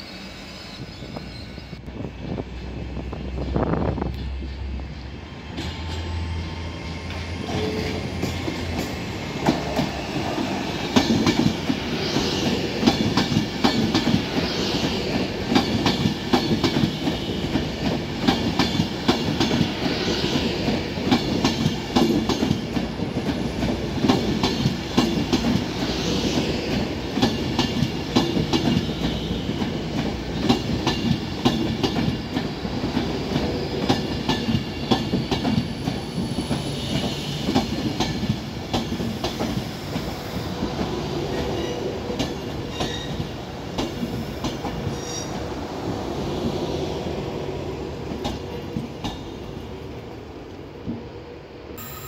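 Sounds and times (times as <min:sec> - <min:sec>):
electric train passing: 0:00.0 - 0:52.0.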